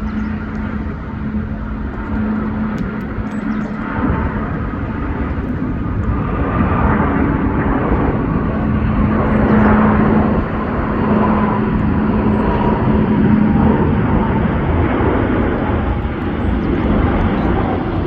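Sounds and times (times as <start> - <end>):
jet airliner engines roaring: 0.0 - 18.0.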